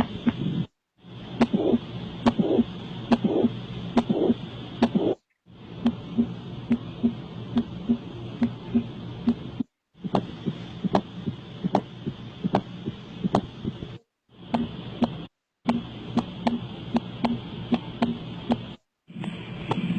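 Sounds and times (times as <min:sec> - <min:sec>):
heartbeat through stethoscope: 0:00.0 - 0:00.7, 0:01.4 - 0:05.2, 0:05.8 - 0:18.7.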